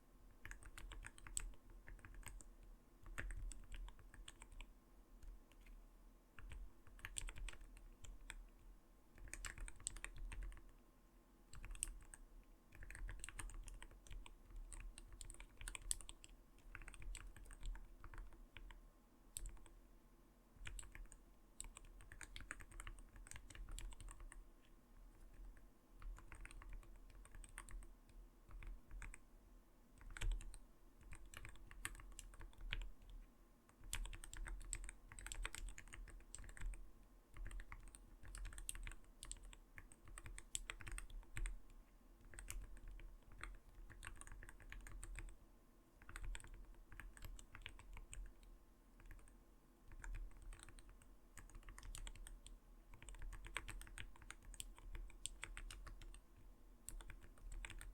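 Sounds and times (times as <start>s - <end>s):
mechanical keyboard typing: 0.4s - 5.7s, 6.4s - 8.4s, 9.2s - 10.7s, 11.5s - 18.8s, 20.6s - 24.4s, 25.1s - 27.9s, 28.5s - 29.2s, 30.0s - 41.6s, 42.2s - 45.4s, 46.0s - 48.4s, 49.9s - 57.9s.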